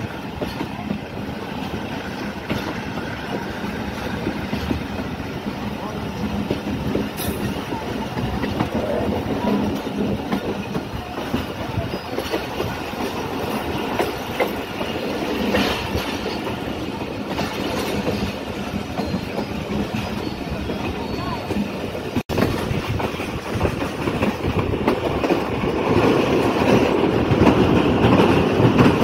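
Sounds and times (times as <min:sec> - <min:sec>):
train rolling rumble: 0:00.0 - 0:29.0
wheels clacking over rail joints: 0:00.0 - 0:29.0.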